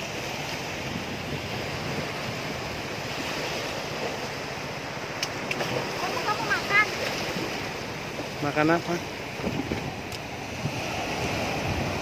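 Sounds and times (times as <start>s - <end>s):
ocean waves breaking on rocks: 0.0s - 12.0s.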